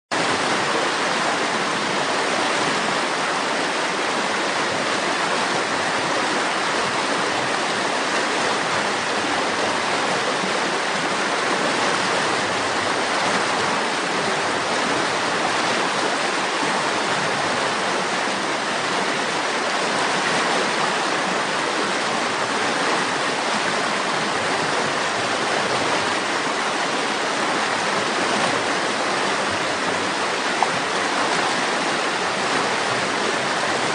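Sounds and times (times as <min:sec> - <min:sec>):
river water rushing: 0:00.1 - 0:33.9.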